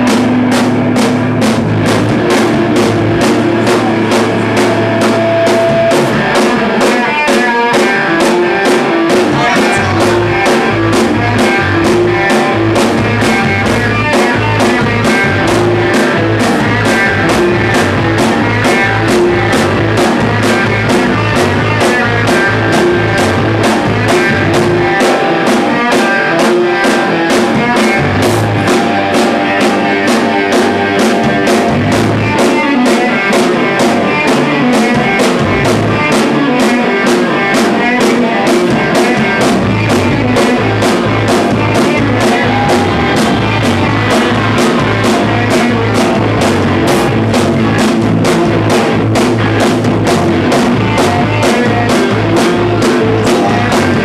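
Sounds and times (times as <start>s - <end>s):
bass guitar: 0.0s - 54.0s
drum kit fast beat: 0.0s - 54.0s
electric guitars: 0.0s - 54.0s.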